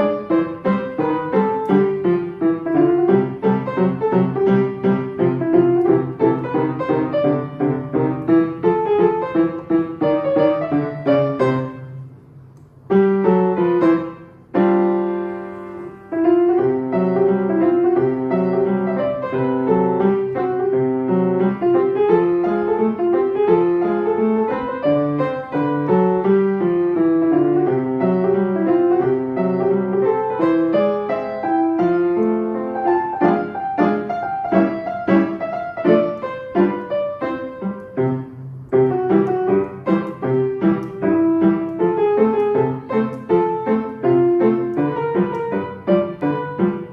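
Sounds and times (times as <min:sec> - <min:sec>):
solo piano music: 0:00.0 - 0:46.9.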